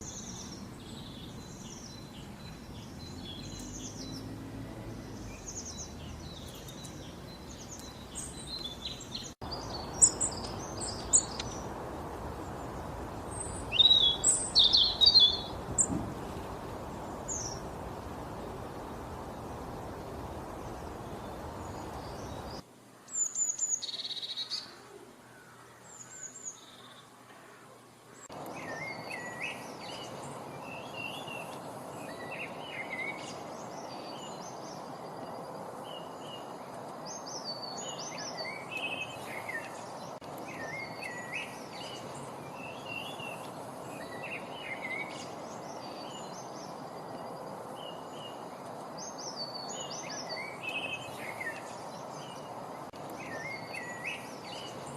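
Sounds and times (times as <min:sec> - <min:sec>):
songbirds singing and calling: 0:00.0 - 0:54.9.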